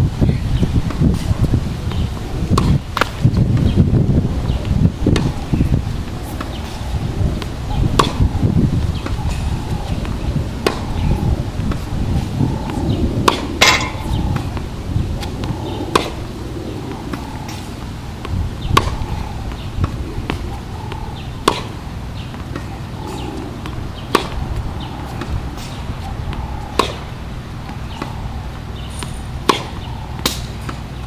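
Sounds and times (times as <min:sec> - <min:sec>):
racket striking tennis ball: 0:01.9 - 0:03.2, 0:05.1 - 0:06.8, 0:07.4 - 0:08.4, 0:09.0 - 0:11.0, 0:11.6 - 0:31.0.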